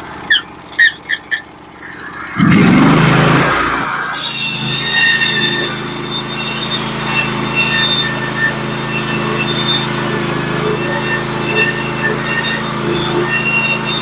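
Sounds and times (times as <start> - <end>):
sawmill engine running: 0.0 - 14.0
band blade squealing: 0.2 - 14.0.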